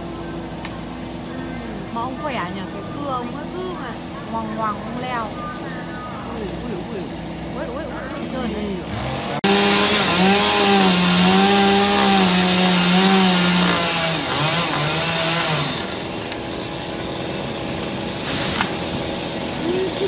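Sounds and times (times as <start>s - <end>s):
chainsaw cutting branches: 0.0s - 20.0s.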